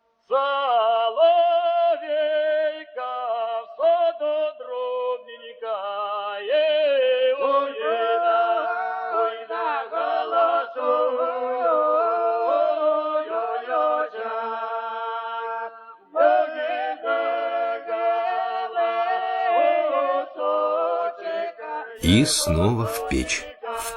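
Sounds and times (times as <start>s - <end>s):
unaccompanied singing: 0.3s - 23.9s.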